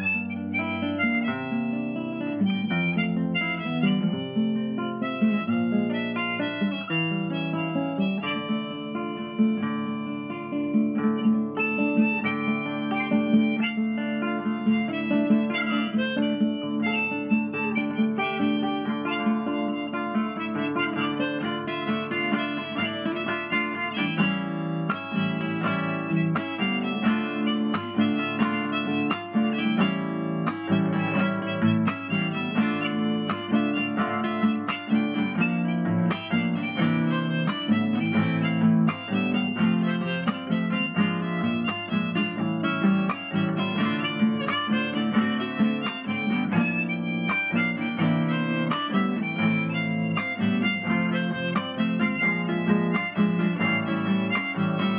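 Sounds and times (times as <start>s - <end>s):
guitar: 0.0s - 54.9s
harmonica: 0.0s - 54.9s.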